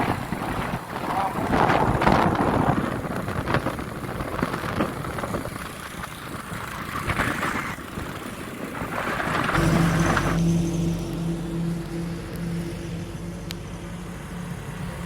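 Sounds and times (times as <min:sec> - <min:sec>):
engines running with uneven rumble: 0:00.0 - 0:15.0.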